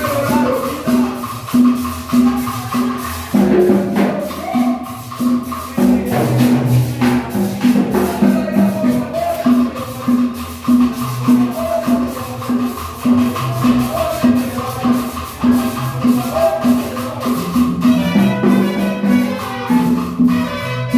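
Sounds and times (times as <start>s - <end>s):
dance music with steady beat: 0.0s - 20.9s
rattling percussion: 0.0s - 20.9s.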